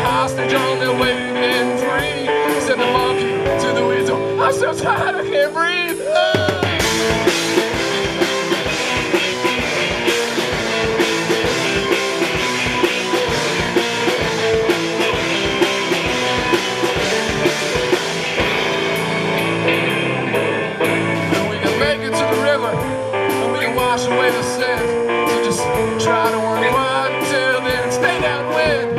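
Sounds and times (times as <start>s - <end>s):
drum kit beat: 0.0s - 28.9s
electric guitar: 0.0s - 28.9s.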